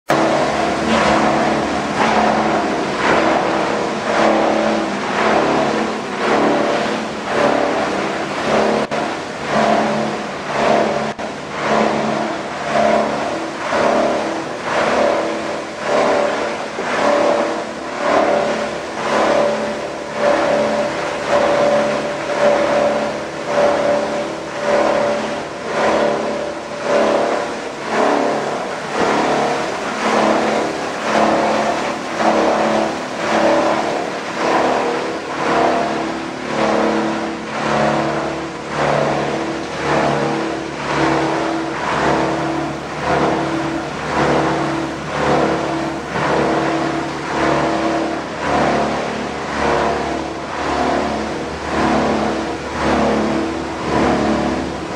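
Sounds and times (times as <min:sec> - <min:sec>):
machinery humming: 0:00.1 - 0:54.9.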